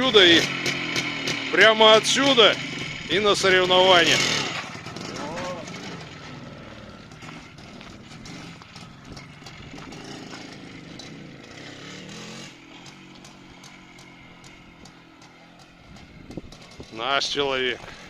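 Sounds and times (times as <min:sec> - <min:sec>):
motorcycle engine running unevenly: 0:00.0 - 0:18.0.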